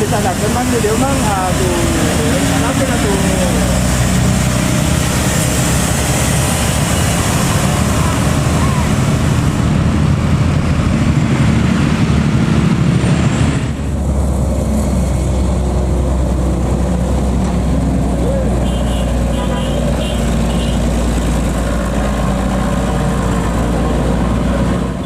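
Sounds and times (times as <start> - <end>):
heavy vehicle engines: 0.0 - 25.0.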